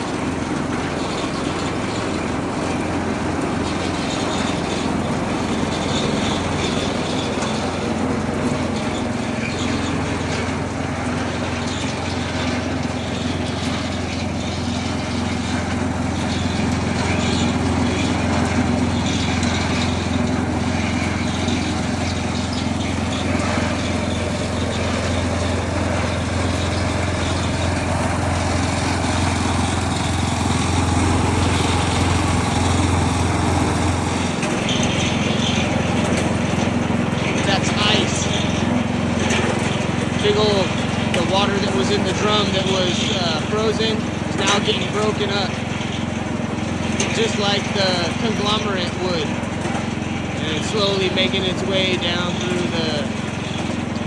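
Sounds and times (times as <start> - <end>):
small engine humming: 0.0 - 54.0.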